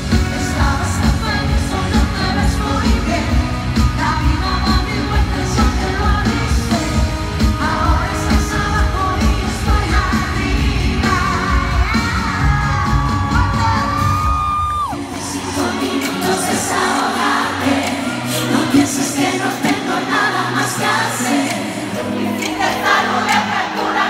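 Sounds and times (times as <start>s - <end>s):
pop-rock band playing: 0.0s - 24.0s
woman singing live: 0.0s - 24.0s.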